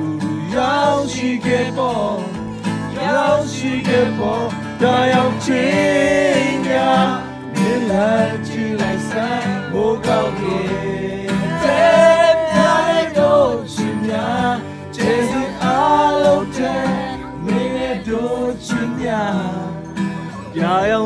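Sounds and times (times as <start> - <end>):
acoustic guitar: 0.0 - 21.0
people singing: 0.0 - 21.0.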